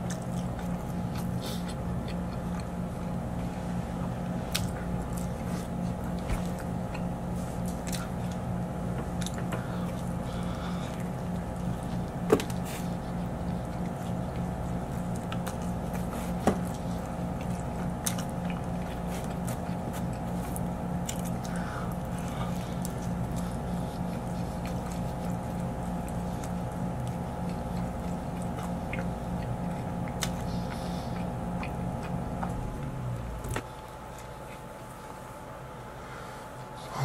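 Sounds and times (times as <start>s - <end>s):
low hum: 0.0s - 37.0s
man chewing pizza: 0.0s - 37.0s.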